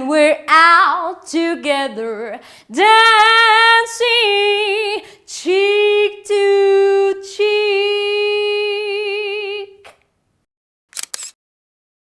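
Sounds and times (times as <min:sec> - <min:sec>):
woman singing unaccompanied: 0:00.0 - 0:09.8.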